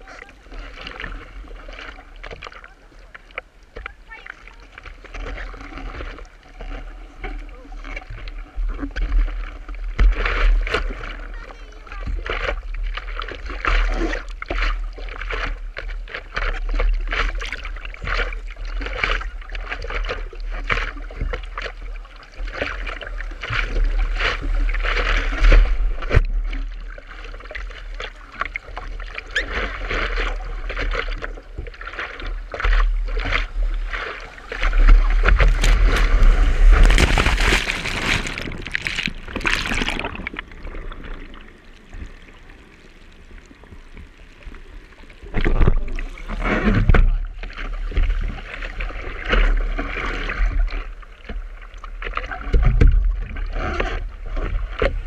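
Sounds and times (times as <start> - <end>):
rush of water: 0.0 - 55.0
water splashing around surfboard: 0.0 - 55.0.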